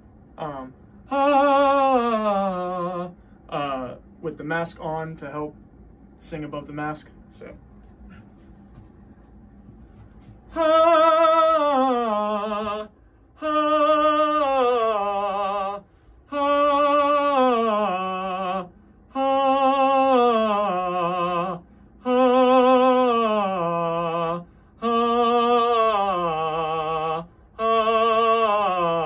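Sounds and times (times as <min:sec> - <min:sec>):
man singing vocal exercise: 0:00.4 - 0:05.5, 0:10.5 - 0:29.0.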